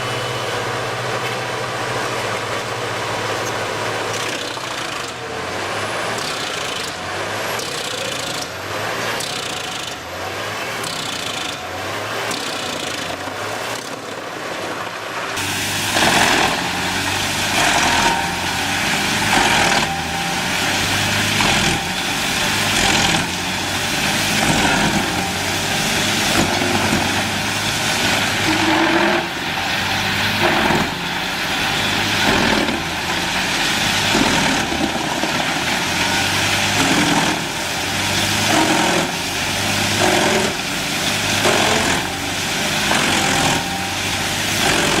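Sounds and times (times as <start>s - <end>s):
wood chipper engine under load: 0.0s - 45.0s.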